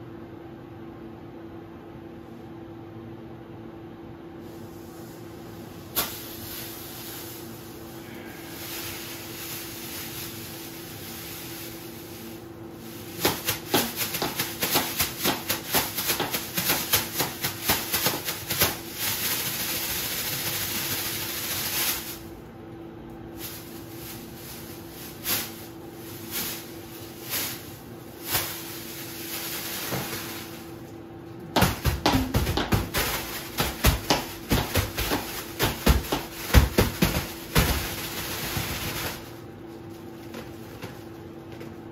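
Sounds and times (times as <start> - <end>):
steady hum: 0.0 - 41.9
plastic bag crinkling: 5.9 - 22.4, 23.3 - 30.9, 31.5 - 41.6.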